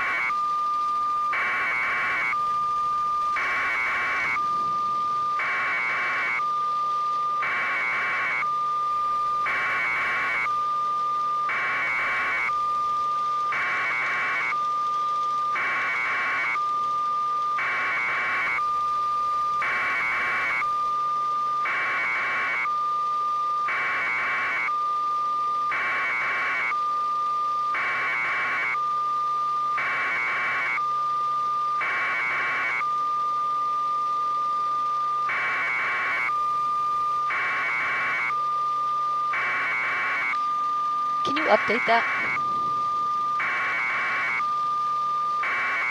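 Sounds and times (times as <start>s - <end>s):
harsh buzzing alarm beep: 0.0s - 45.9s
steady high alarm tone: 0.0s - 45.9s.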